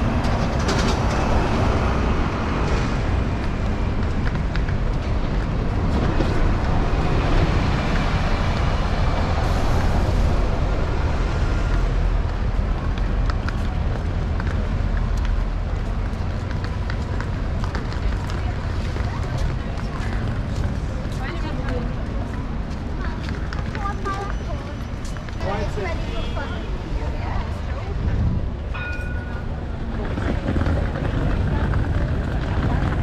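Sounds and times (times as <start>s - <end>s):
buses passing: 0.0s - 33.0s
street bustle: 0.0s - 33.0s.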